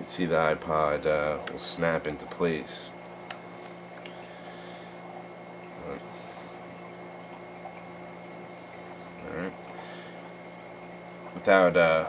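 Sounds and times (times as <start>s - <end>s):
faint electrical hum and hiss: 0.0s - 12.0s.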